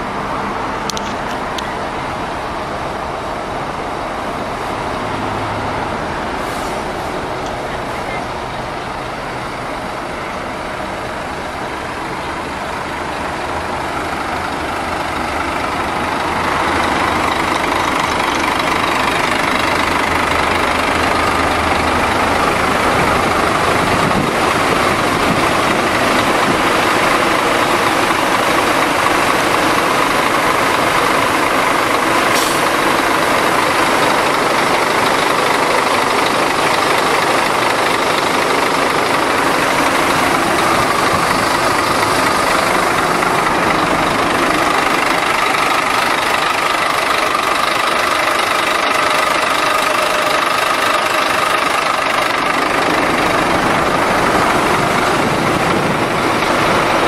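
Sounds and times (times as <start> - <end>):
diesel bus engine idling: 0.0 - 57.0.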